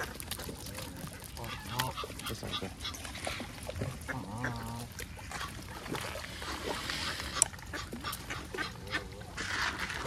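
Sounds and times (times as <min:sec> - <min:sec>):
geese and ducks calling: 0:00.0 - 0:10.0.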